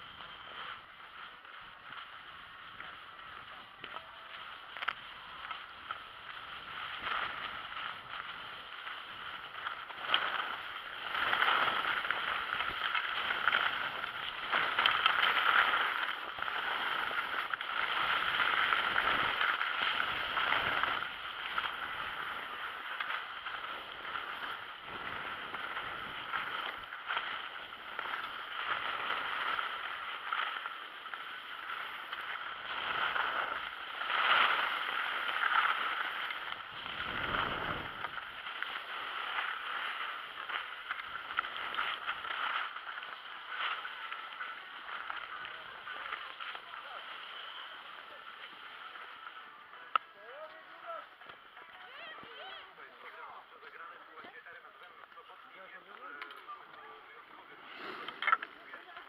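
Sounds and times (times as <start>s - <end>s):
skis scraping over snow: 0.0s - 59.0s.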